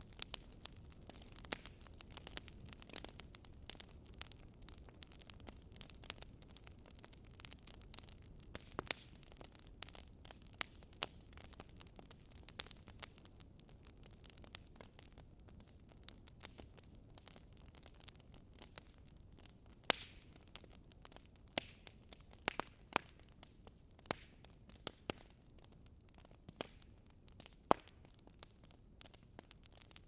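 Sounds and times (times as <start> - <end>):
faint steady hiss: 0.0 - 30.0
firewood crackling and popping: 0.0 - 30.0.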